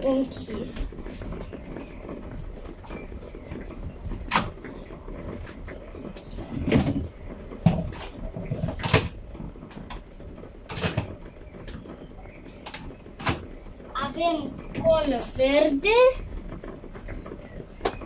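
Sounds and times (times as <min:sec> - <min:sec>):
plastic cones clattering: 0:00.0 - 0:18.0.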